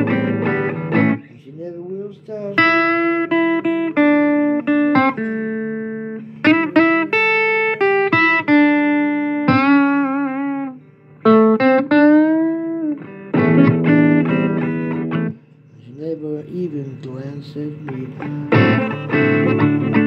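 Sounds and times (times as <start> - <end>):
blues guitar lead: 0.0 - 20.0.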